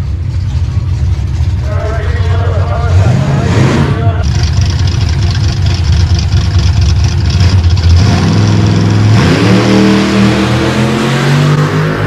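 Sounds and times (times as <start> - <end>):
drag-racing engine accelerating: 0.4 - 12.0.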